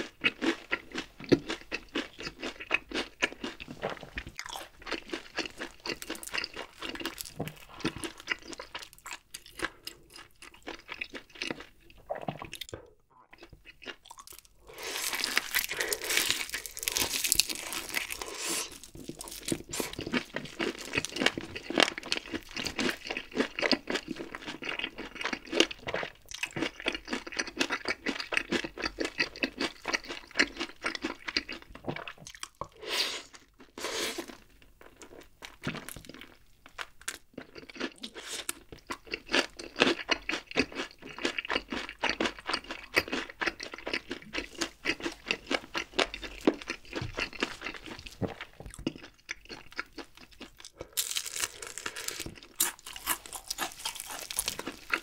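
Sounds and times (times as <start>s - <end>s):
crunching fried chicken: 0.0s - 11.8s, 13.4s - 55.0s.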